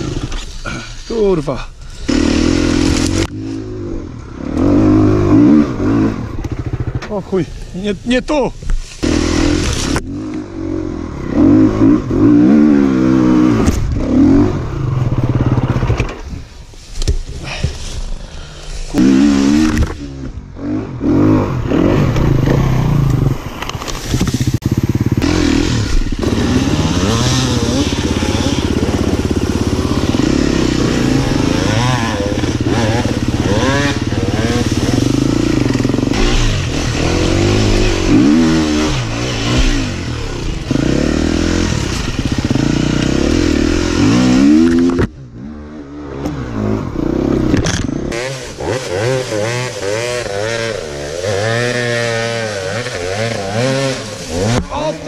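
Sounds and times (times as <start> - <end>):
dirt bike engine revving hard: 2.0 - 6.9, 9.0 - 15.9, 18.9 - 23.4, 24.2 - 55.0.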